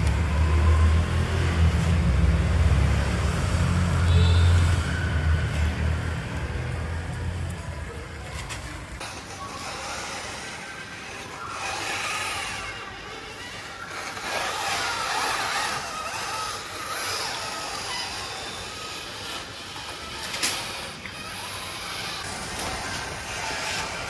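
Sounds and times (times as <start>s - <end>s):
small electric motor whining: 0.0s - 24.0s.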